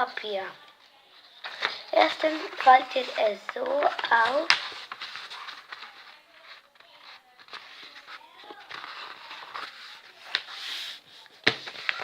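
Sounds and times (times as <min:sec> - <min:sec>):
paper rustling and crinkling: 0:01.2 - 0:12.0.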